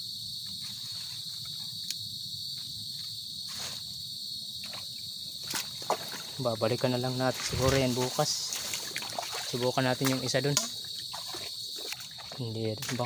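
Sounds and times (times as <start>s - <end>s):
insects chorus drone: 0.0s - 13.0s.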